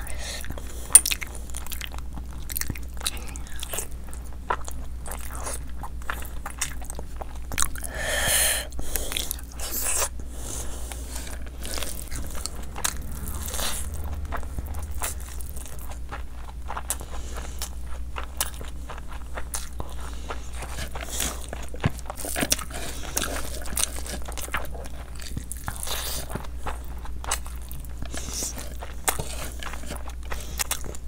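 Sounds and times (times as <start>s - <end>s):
person chewing and smacking: 0.0s - 31.0s.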